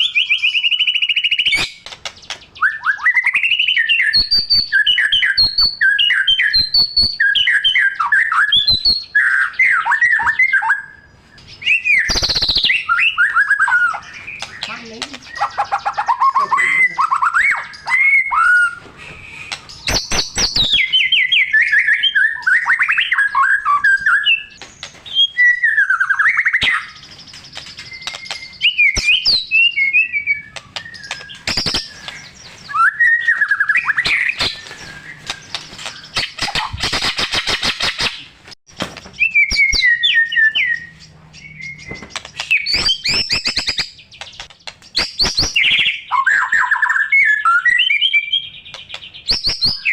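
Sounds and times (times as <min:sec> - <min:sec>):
bird singing varied song: 0:00.0 - 0:38.4, 0:39.0 - 0:49.9.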